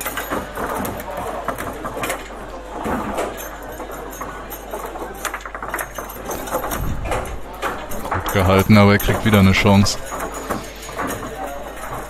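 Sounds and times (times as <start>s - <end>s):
rods rattling: 0.0s - 12.0s.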